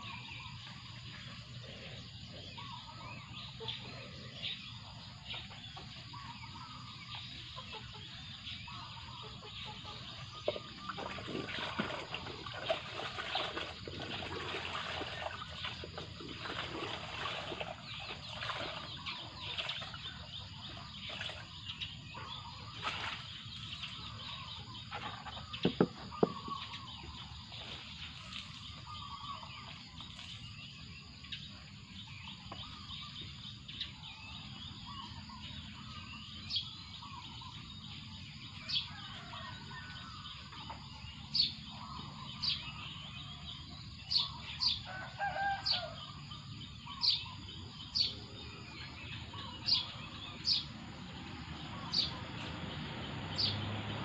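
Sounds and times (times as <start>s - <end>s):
many birds chirping: 0.0s - 54.0s.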